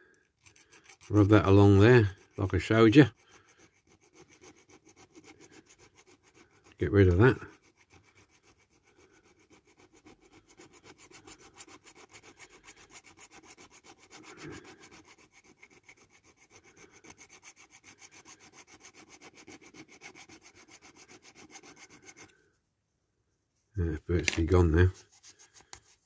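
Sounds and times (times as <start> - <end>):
file rasping on metal: 0.4 - 22.4, 24.4 - 26.0.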